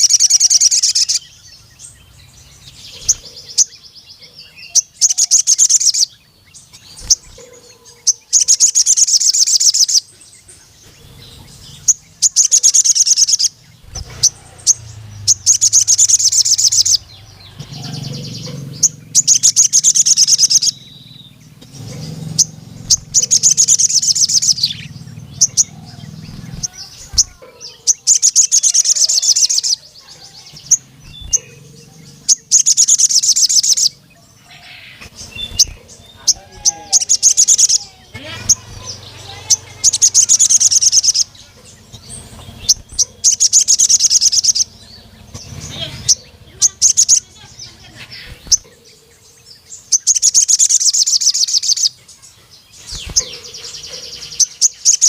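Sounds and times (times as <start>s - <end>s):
sunbird chattering trills: 0.0s - 55.0s.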